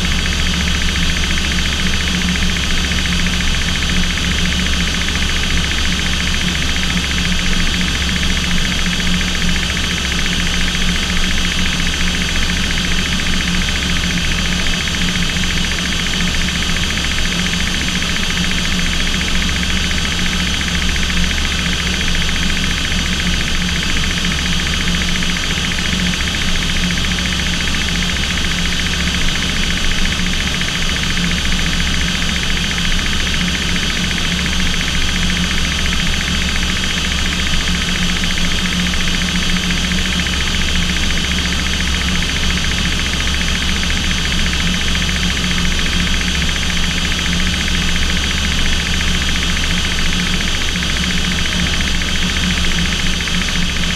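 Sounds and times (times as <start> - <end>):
aircraft engine drone: 0.0 - 53.9
high engine whine: 0.0 - 53.9.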